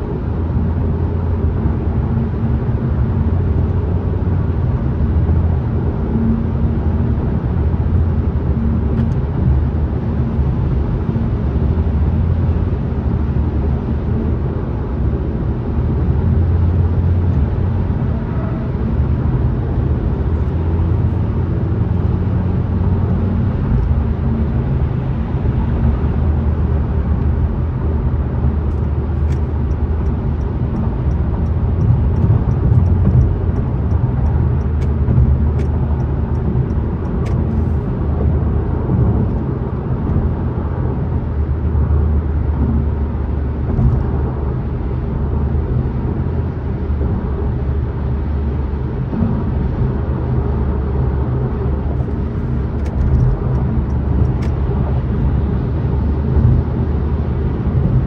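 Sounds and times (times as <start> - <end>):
car engine noise: 0.0 - 58.0
road and tyre rumble: 0.0 - 58.0.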